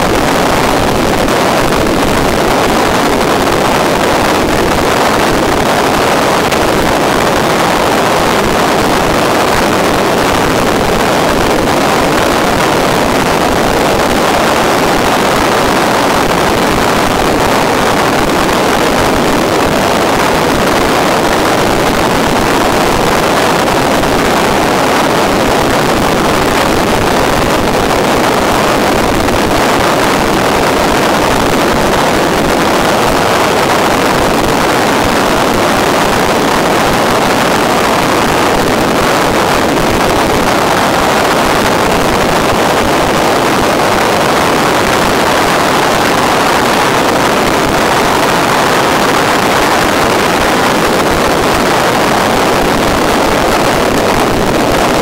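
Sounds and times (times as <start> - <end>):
loud rushing noise: 0.0 - 55.0.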